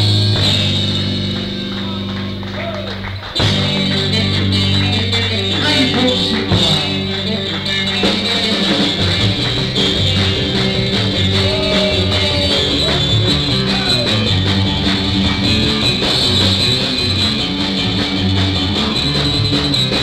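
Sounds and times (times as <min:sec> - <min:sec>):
bass line: 0:00.0 - 0:20.0
electric guitar: 0:00.0 - 0:20.0
steady drum beat: 0:00.0 - 0:20.0.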